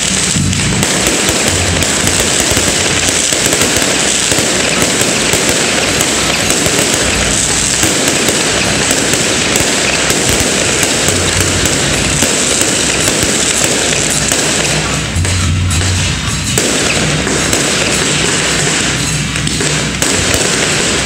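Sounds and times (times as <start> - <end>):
fireworks crackling bangs: 0.0 - 21.0.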